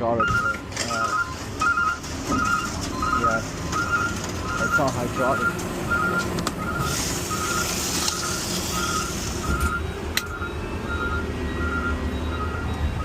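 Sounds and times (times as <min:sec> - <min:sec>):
diesel engine rumble: 0:00.0 - 0:13.0
reversing alarm beeping: 0:00.0 - 0:13.0.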